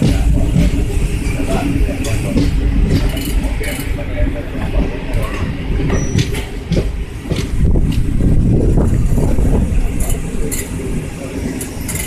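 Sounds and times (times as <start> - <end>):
train wheel and rail rumble: 0.0 - 12.0.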